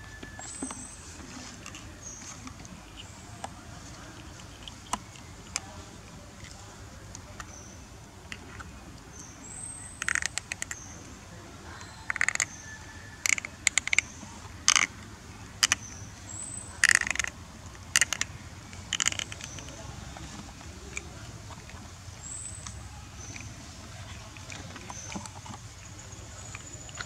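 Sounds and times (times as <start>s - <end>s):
monkey drinking from plastic bottle: 0.6s - 27.0s.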